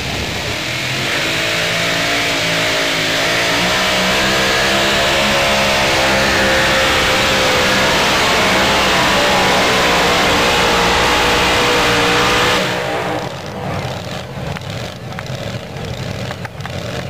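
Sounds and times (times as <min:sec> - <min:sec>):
supercharged truck engine roaring: 0:00.0 - 0:17.0.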